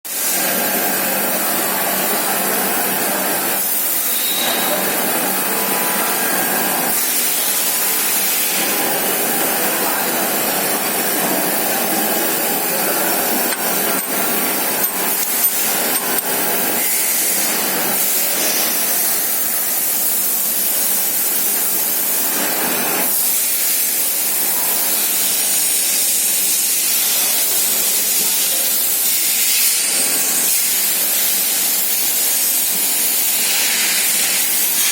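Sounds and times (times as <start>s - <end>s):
surface grinder hissing: 0.1s - 34.9s.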